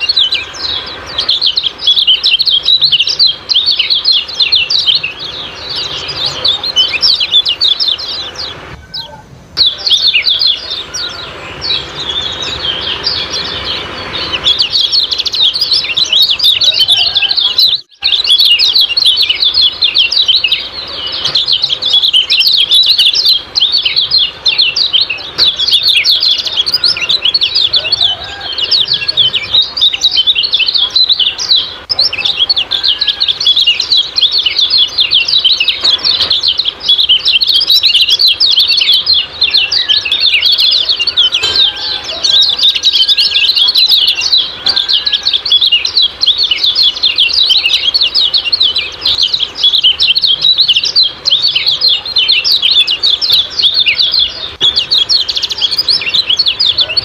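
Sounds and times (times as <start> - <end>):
birds chirping rapidly: 0.0 - 57.0.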